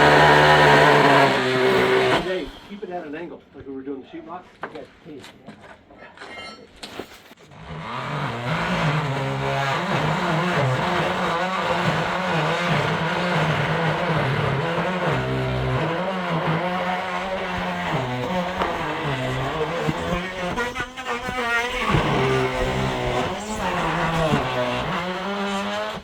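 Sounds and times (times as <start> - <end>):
chainsaw cutting timber: 0.0 - 3.0, 7.5 - 26.0.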